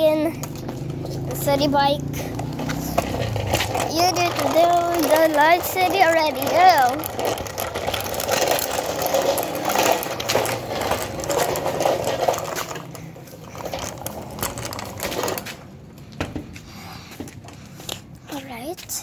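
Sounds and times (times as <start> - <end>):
rapid mechanical rattling: 0.0 - 15.7.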